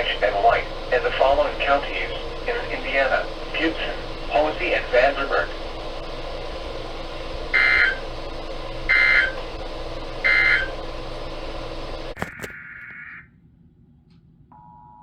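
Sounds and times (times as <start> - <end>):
broadcast background hiss: 0.0 - 12.3
digital data tone bursts: 0.0 - 13.2.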